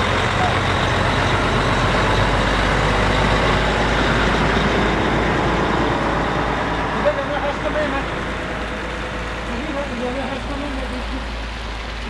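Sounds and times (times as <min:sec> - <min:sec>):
lorry diesel engine: 0:00.0 - 0:12.0.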